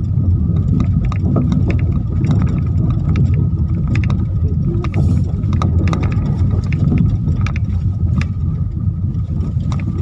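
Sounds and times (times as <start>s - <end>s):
sharp knocks and rattles: 0.0s - 8.5s
car engine and tyres rumbling: 0.0s - 10.0s.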